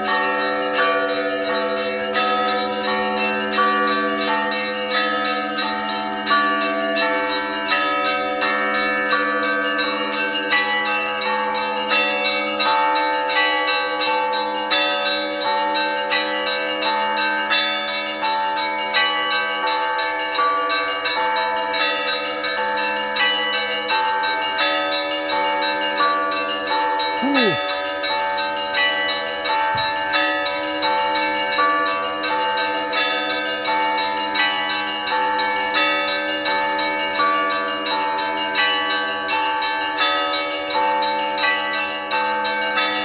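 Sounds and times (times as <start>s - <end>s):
large bells sustained tones: 0.0s - 43.0s
small church bells in quick pattern: 0.0s - 43.0s.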